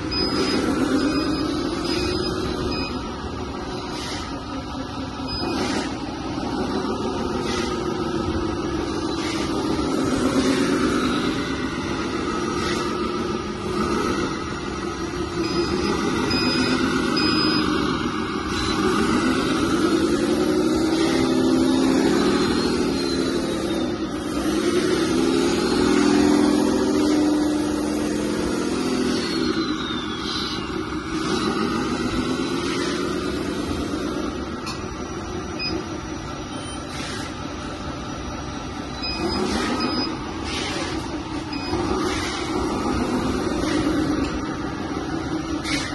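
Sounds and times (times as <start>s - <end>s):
toy loader motors whining: 0.0s - 45.9s.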